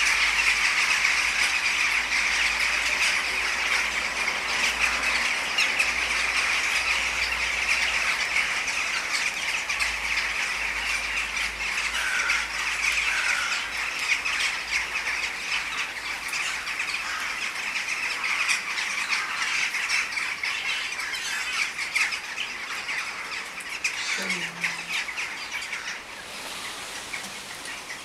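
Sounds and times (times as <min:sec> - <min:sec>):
flock of jackdaws calling: 0:00.0 - 0:28.0.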